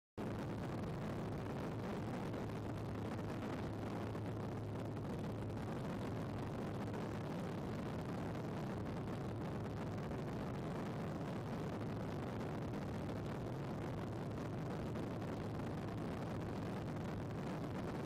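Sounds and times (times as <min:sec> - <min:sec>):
deep rumble: 0:00.2 - 0:18.0.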